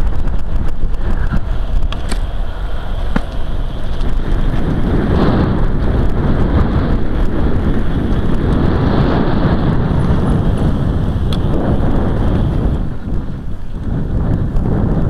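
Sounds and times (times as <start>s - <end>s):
tyre and road rumble: 0.0s - 15.0s
wind buffeting microphone: 0.0s - 15.0s.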